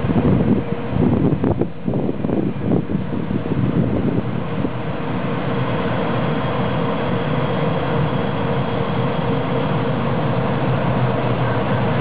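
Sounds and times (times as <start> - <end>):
freight wagons rumbling on rails: 0.0 - 12.0.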